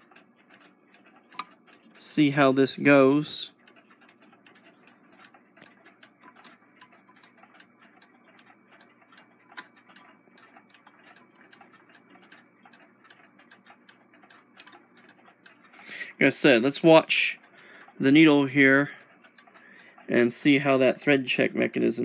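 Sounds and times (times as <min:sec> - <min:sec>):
sewing machine mechanism clicking: 0:00.0 - 0:22.0.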